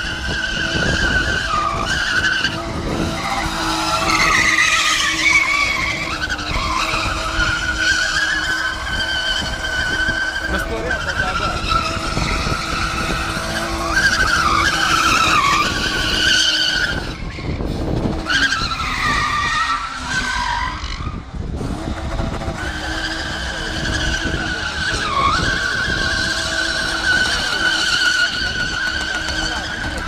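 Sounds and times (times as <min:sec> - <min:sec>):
tyres squealing: 0:00.0 - 0:17.6, 0:18.2 - 0:21.2, 0:22.6 - 0:30.0
car engine running: 0:01.2 - 0:30.0.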